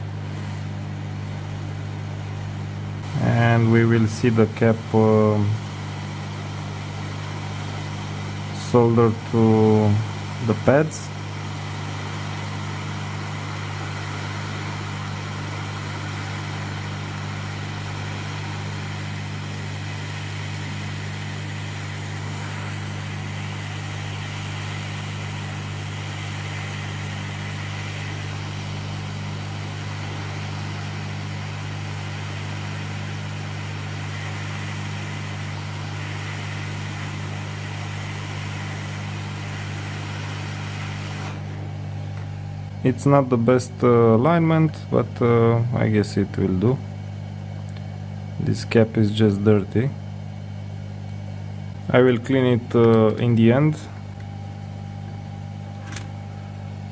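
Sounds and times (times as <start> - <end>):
hot-air station blowing air: 0.0 - 56.9
low electrical hum: 0.0 - 56.9.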